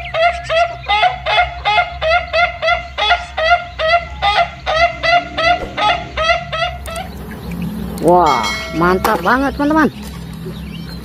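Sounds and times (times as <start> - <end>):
fowl honking calls: 0.0 - 9.3.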